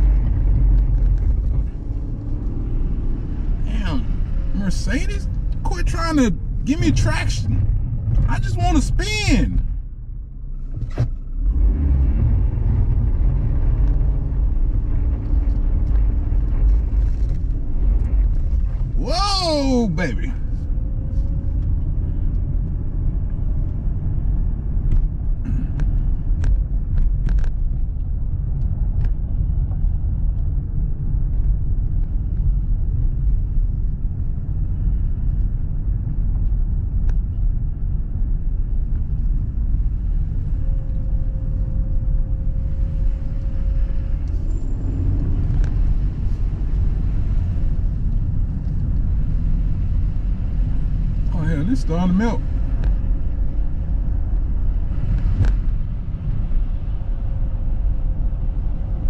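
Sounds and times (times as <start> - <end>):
car driving low rumble: 0.0 - 59.0.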